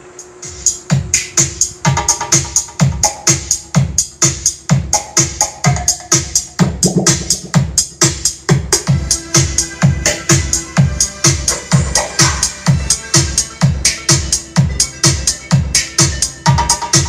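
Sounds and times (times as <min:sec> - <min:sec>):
electronic dance music: 0:00.0 - 0:17.0
heavy kick drum: 0:00.5 - 0:17.0.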